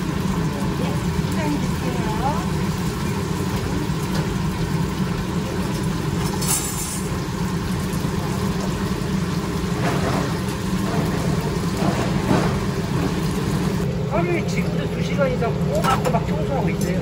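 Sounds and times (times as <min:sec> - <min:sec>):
deep-fryer burners and fans: 0:00.0 - 0:17.0.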